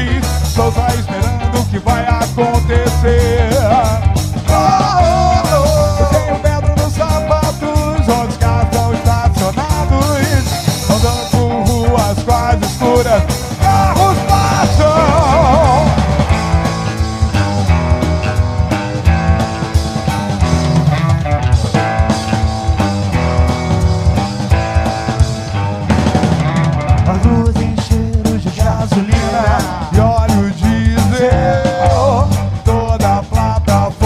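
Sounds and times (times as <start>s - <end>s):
rock song with ska feel: 0.0s - 34.0s.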